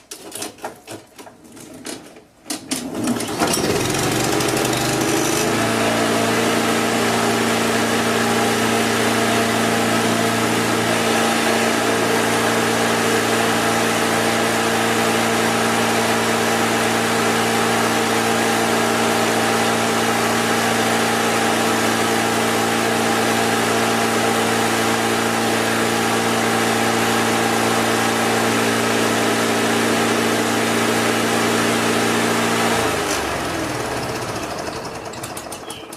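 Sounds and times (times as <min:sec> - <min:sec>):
lawn mower engine: 0:00.0 - 0:35.9.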